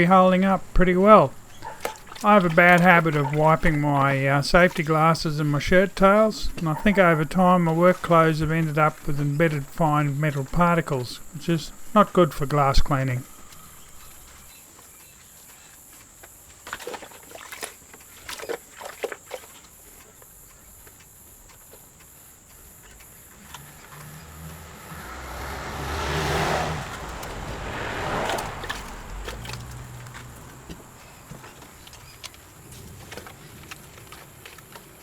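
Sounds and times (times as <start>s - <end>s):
cricket chirping: 0.0s - 35.0s
running splashing water: 0.0s - 35.0s.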